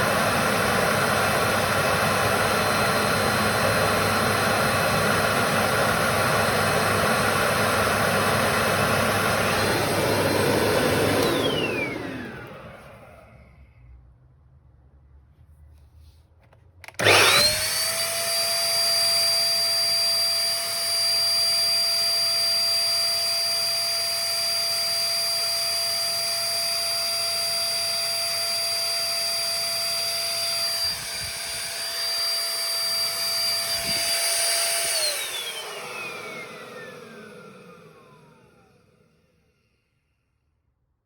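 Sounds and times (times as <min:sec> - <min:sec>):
vacuum cleaner motor whine: 0:00.0 - 0:13.8, 0:16.8 - 0:40.1.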